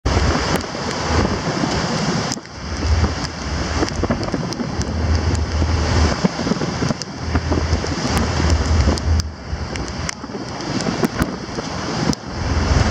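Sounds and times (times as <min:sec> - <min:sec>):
waves rushing along a hull: 0:00.0 - 0:12.9
wind buffeting microphone: 0:00.0 - 0:12.9.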